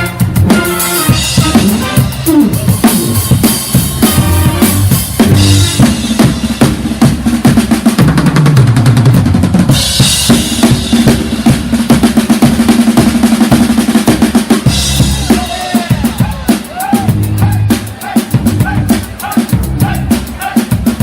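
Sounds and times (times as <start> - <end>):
brass band playing: 0.0 - 7.8, 10.2 - 21.0
snare and bass drum strokes: 0.0 - 21.0.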